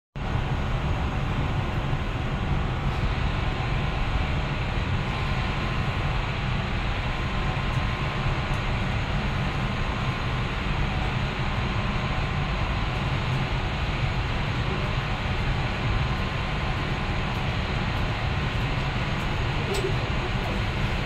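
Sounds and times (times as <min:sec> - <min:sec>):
ship rumble and rushing: 0:00.2 - 0:21.0.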